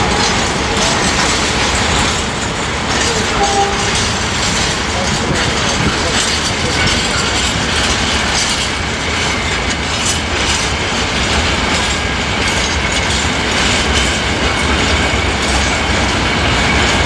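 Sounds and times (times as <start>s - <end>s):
freight train wheels clattering: 0.0s - 17.0s.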